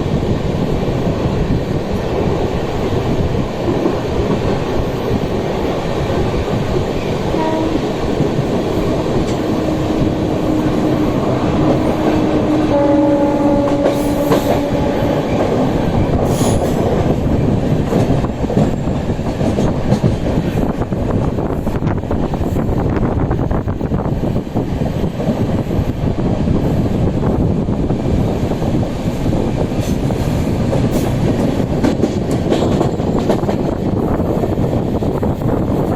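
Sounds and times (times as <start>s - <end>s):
train rumbling on rails: 0.0s - 35.9s.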